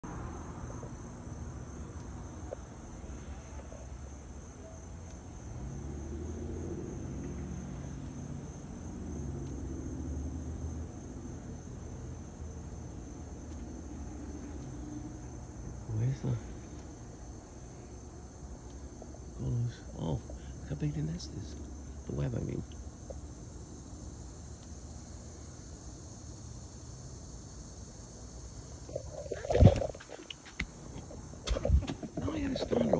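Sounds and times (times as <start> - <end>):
cicadas buzzing: 0.0 - 32.9.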